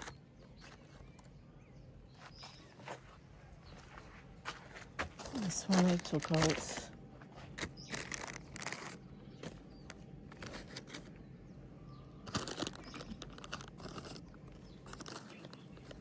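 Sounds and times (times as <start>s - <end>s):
plants and pots rustling: 0.0s - 16.0s.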